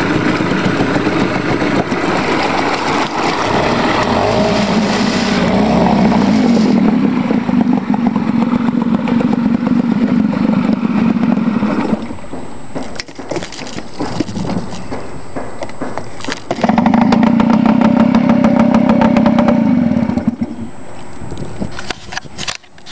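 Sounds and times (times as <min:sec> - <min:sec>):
propeller churning water: 0:00.0 - 0:14.8, 0:16.4 - 0:20.6
outboard motor running: 0:00.0 - 0:15.4, 0:16.4 - 0:20.7.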